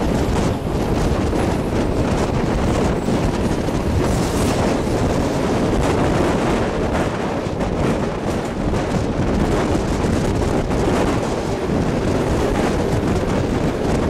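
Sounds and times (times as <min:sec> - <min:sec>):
train running on track: 0:00.0 - 0:14.0
wind buffeting microphone: 0:00.0 - 0:14.0.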